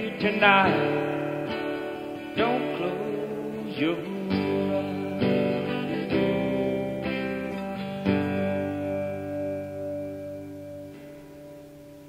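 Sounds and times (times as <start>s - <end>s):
guitar chords ringing: 0.0s - 12.0s.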